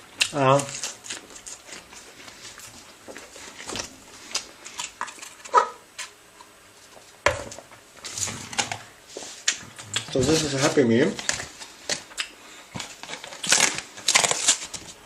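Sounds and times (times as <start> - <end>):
paper packaging crinkling: 0.2 - 6.1, 8.0 - 15.0.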